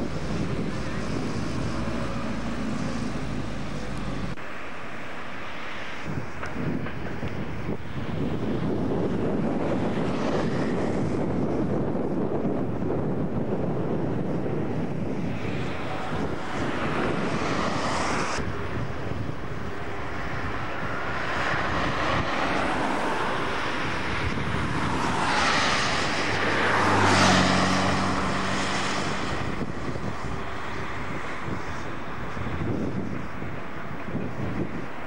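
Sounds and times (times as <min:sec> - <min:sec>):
cars passing: 0:00.0 - 0:35.0
low engine hum: 0:00.0 - 0:35.0.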